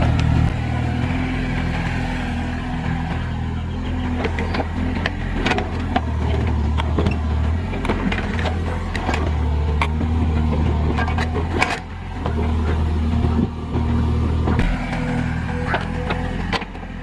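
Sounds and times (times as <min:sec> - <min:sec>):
excavator engine under load: 0:00.0 - 0:17.0.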